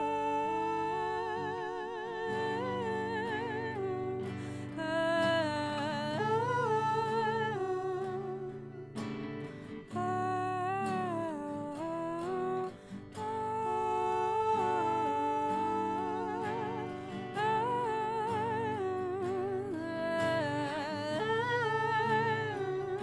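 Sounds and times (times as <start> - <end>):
acoustic guitar: 0.0 - 23.0
electric guitar: 0.0 - 23.0
woman and man singing: 0.0 - 23.0.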